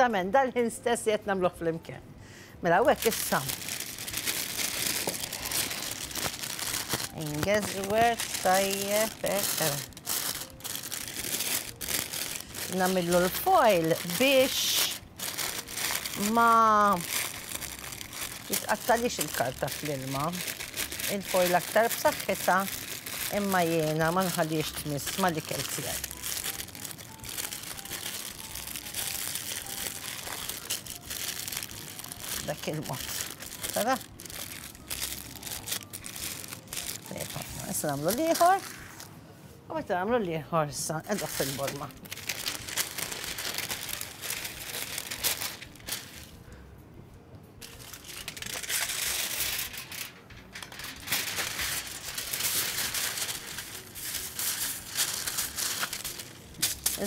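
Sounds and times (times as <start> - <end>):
aluminium foil crinkling: 2.8 - 39.1, 40.8 - 46.4, 47.6 - 57.0.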